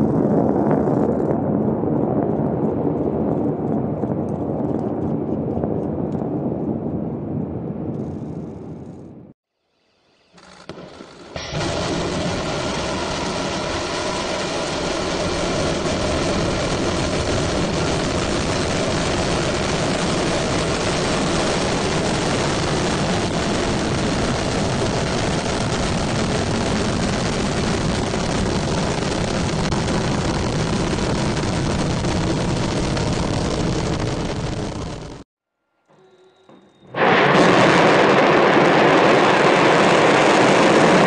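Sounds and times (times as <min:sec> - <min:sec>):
rocket engine roar: 0:00.0 - 0:09.3, 0:10.4 - 0:35.3, 0:36.7 - 0:41.0.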